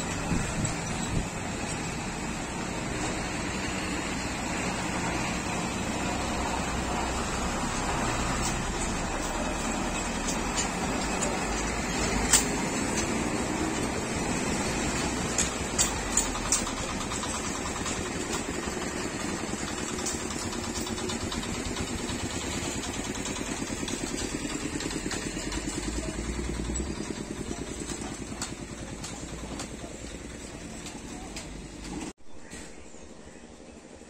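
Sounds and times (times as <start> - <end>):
trucks driving past: 0.0 - 32.1.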